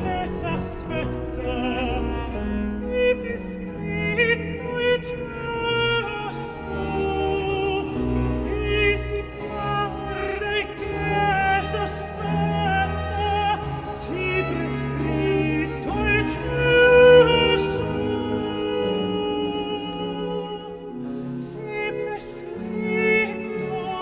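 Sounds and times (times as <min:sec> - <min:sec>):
bowed string ensemble: 0:00.0 - 0:24.0
countertenor singing aria: 0:00.0 - 0:24.0.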